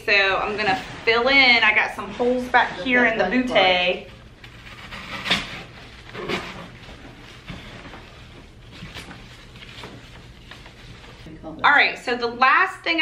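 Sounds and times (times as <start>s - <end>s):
artificial flowers rustling: 0.0s - 11.3s.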